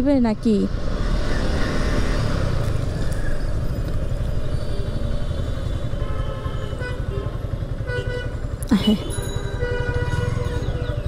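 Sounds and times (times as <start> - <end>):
motorcycle engine and road rumble: 0.0 - 11.0.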